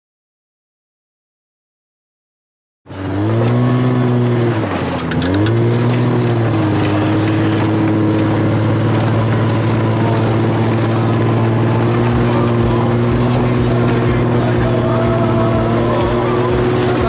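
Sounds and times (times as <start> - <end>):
clatter: 2.9 - 17.0
vehicle engine running: 2.9 - 17.0.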